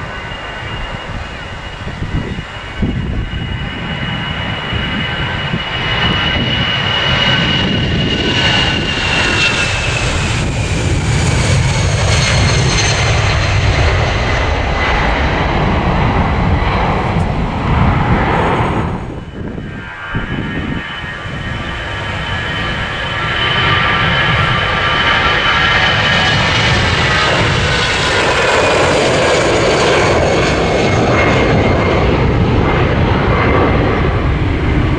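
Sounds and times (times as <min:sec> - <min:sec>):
deep engine rumble: 0:00.0 - 0:34.9
jet engines high fan whine: 0:00.0 - 0:34.9.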